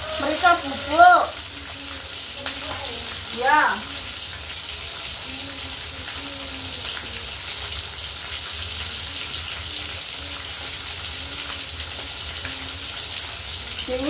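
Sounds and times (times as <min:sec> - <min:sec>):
wings sizzling in oil: 0:00.0 - 0:14.0.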